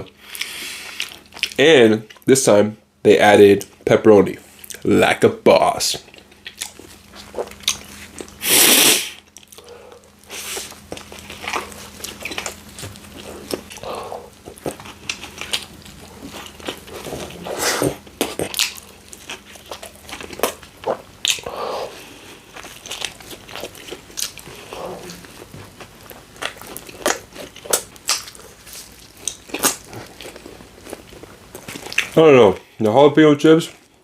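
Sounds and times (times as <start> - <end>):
person chewing food: 0.0 - 2.3, 6.0 - 32.6.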